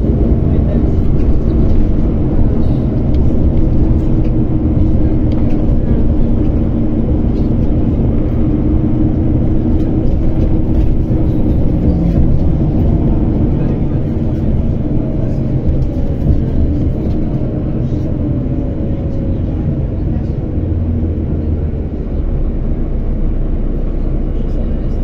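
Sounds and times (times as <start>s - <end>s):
engine hum: 0.0s - 25.0s
road rumble: 0.0s - 25.0s.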